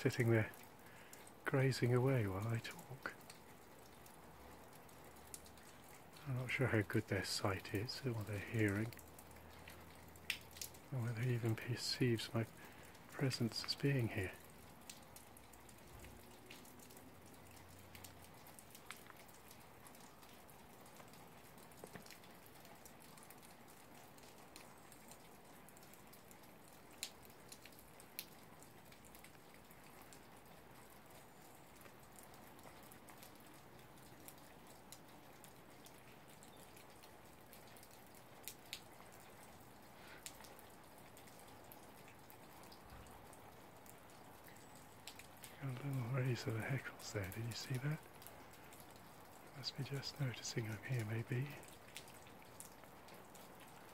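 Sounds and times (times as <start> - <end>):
faint steady hiss: 0.0 - 53.9.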